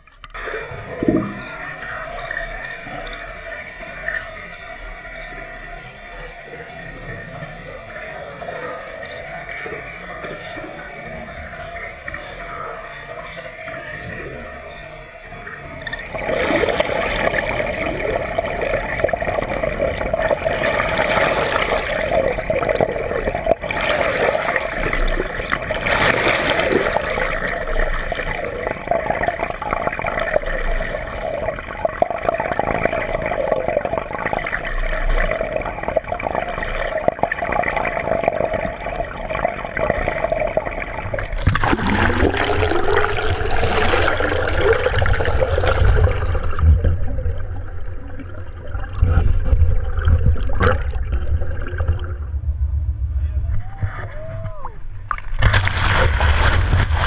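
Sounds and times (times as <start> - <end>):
rushing gurgling water underwater: 0.0 - 6.0, 6.7 - 53.2, 54.8 - 57.0.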